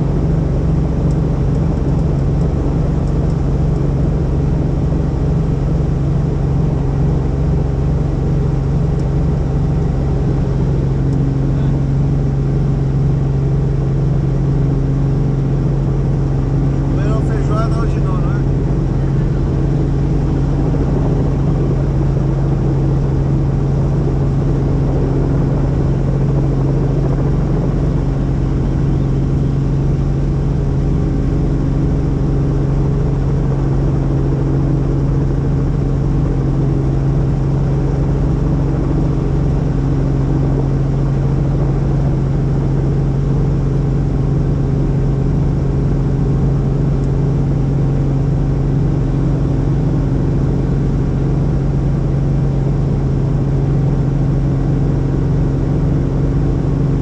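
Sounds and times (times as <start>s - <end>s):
helicopter drone: 0.0s - 57.0s.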